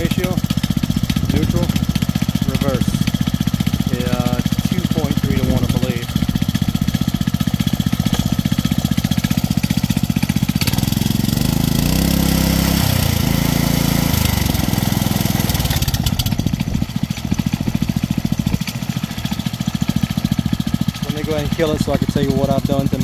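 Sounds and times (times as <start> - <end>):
small engine idling and revving: 0.0 - 23.0.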